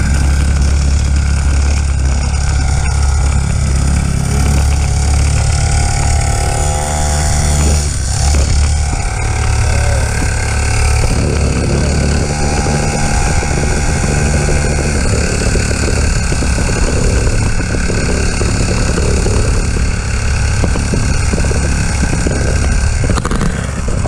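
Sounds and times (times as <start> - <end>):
small motorbike engine running: 0.0 - 24.0.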